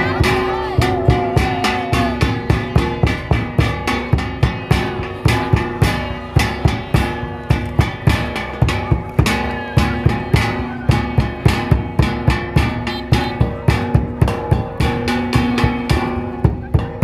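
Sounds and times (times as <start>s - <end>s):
fast drum beat: 0.0s - 17.0s
plucked string melody: 0.0s - 17.0s.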